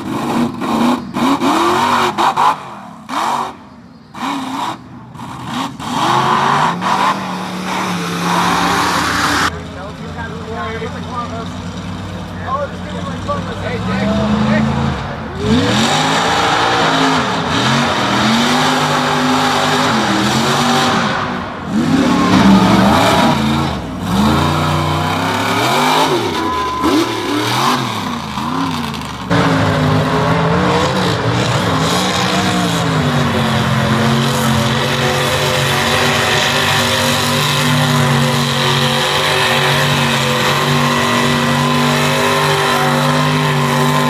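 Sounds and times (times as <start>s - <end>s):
truck engines revving: 0.0s - 44.0s.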